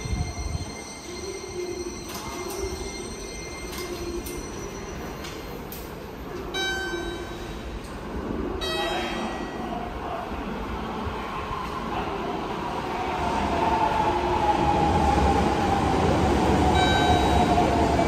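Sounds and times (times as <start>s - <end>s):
subway train running: 0.0s - 18.0s.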